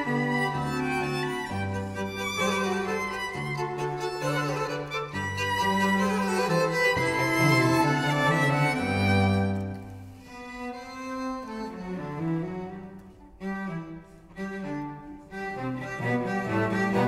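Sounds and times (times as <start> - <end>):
cello: 0.0 - 17.0
string quartet playing: 0.0 - 17.0.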